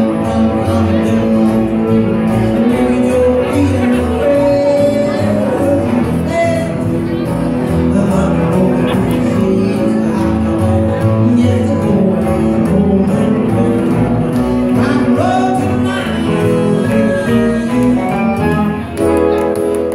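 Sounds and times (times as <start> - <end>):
acoustic guitar strumming: 0.0 - 19.9
electric guitar: 0.0 - 19.9
upright bass: 0.0 - 19.9.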